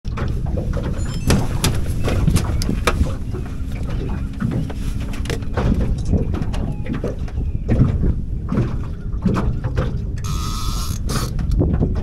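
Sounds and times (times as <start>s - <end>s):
knocks and thumps from boat hull: 0.1s - 12.0s
wind rumbling on microphone: 0.1s - 12.0s.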